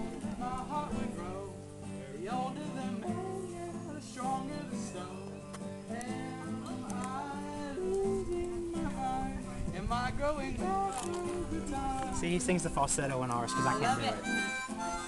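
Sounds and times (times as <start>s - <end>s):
person singing: 0.0s - 12.6s
acoustic guitar: 0.0s - 15.0s.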